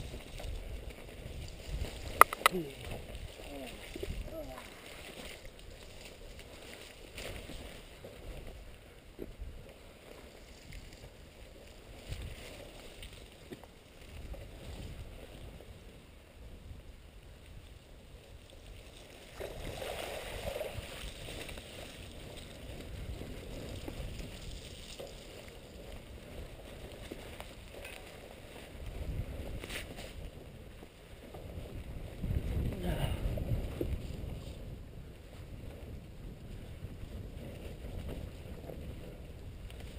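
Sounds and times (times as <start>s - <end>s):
bike tyres rumbling on trail: 0.0s - 39.9s
wind on microphone: 0.0s - 39.9s.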